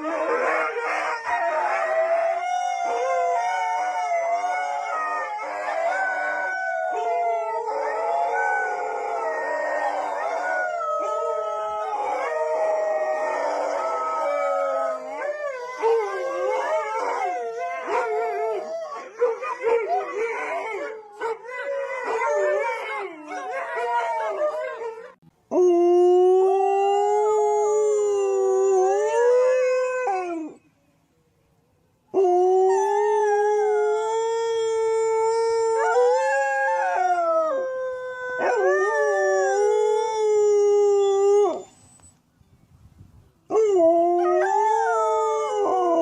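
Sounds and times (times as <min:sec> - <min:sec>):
dogs howling: 0:00.0 - 0:30.6, 0:32.2 - 0:41.8, 0:43.5 - 0:46.0.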